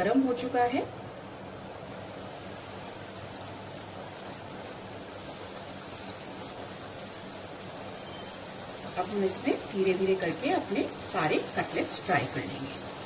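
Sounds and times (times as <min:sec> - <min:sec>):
cutlets deep-frying with crackles: 0:01.4 - 0:13.0.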